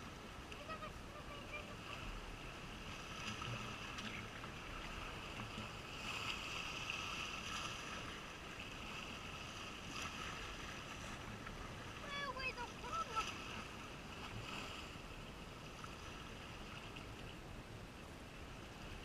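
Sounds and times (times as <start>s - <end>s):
sea washing: 0.0s - 19.0s
wind: 0.0s - 19.0s.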